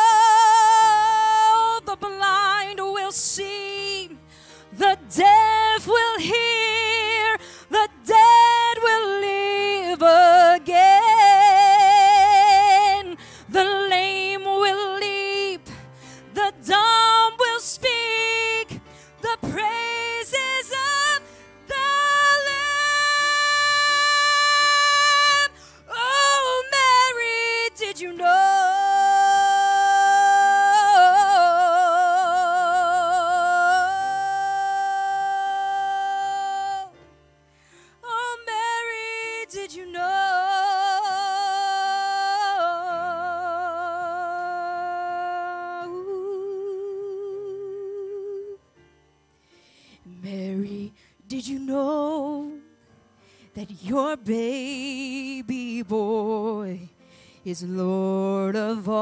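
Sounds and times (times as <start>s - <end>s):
woman singing wordless held notes: 0.0s - 37.0s, 38.0s - 48.6s, 50.1s - 52.6s, 57.5s - 59.0s
soft accompaniment: 0.0s - 59.0s.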